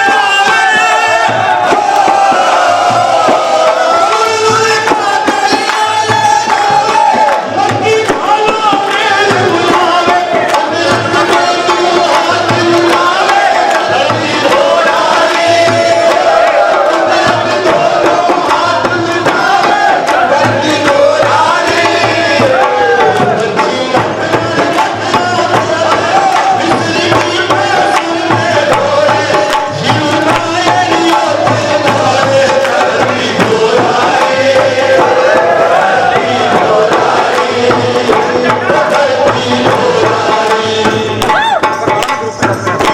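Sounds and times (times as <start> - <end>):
devotional singing: 0.0 - 42.9
tabla drum beat: 0.0 - 42.9.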